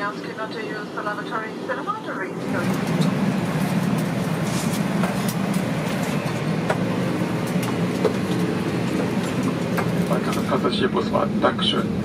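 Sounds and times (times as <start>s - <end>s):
aircraft cabin ventilation hum: 0.0s - 12.0s.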